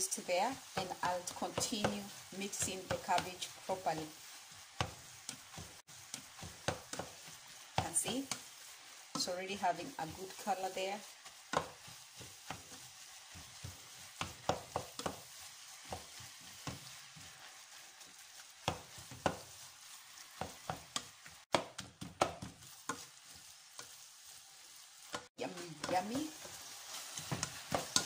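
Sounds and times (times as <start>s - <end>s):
wooden spoon scraping a pot: 0.0s - 24.4s, 25.0s - 28.0s
cabbage sizzling in a pot: 0.0s - 28.0s.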